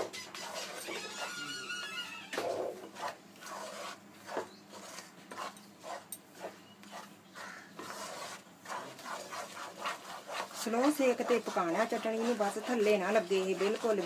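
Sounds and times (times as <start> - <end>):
spoon scraping a pan: 0.0 - 14.0.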